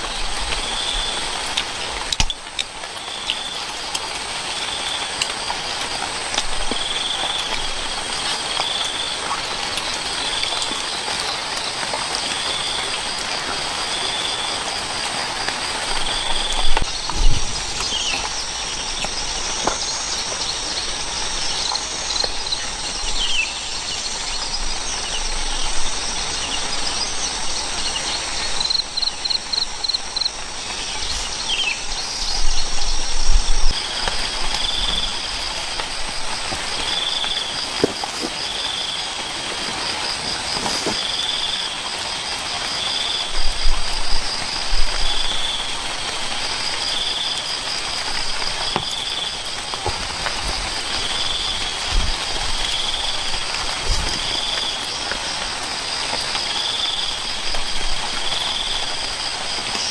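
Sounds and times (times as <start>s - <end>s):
steady outdoor noise: 0.0s - 59.9s.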